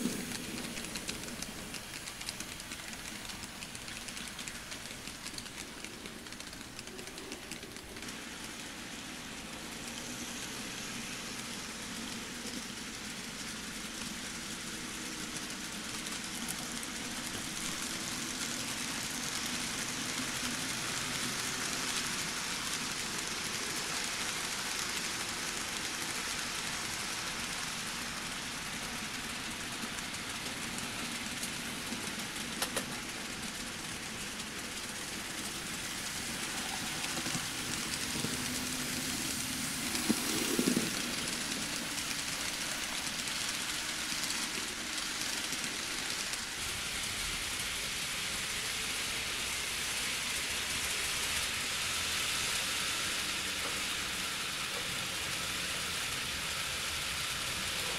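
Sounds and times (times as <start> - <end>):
model train wheels on rails: 0.0 - 57.9.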